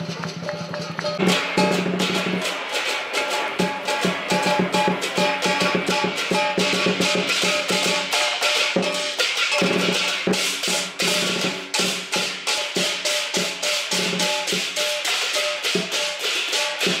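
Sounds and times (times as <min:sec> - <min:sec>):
hand cymbals crashing: 0:00.0 - 0:17.0
large drum beating: 0:00.0 - 0:17.0.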